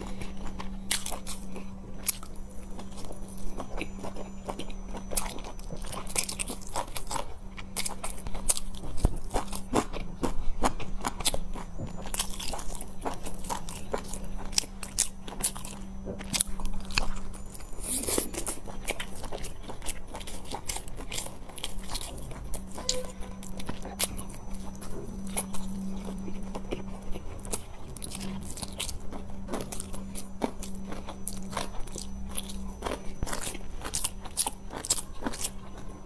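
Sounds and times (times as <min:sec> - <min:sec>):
chewing and biting buns: 0:00.0 - 0:36.0
faint steady hum: 0:00.0 - 0:36.0.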